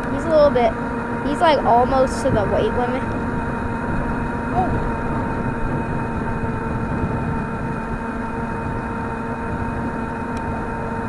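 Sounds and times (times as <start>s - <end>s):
steady hum: 0.0s - 11.0s
wind buffeting microphone: 0.0s - 11.0s.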